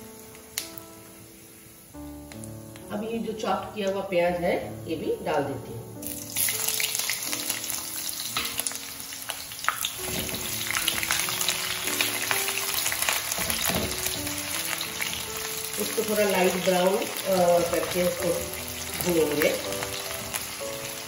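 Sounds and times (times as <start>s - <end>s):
onion sizzling in oil: 0.0s - 21.0s.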